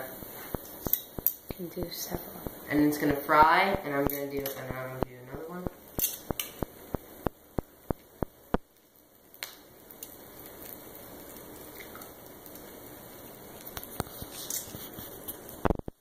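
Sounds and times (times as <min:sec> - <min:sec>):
oil sizzling in skillet: 0:00.0 - 0:16.0.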